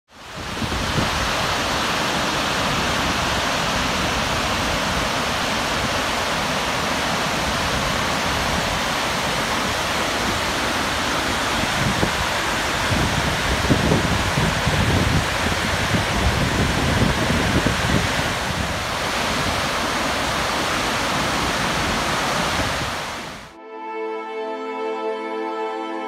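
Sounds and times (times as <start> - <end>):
water rushing over a spillway: 0.1 - 23.5.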